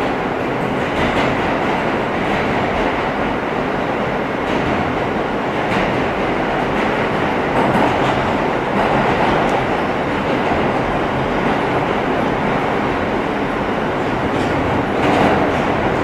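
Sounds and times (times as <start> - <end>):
rail joint clicks: 0.0 - 16.0
subway car wheels on rails: 0.0 - 16.0.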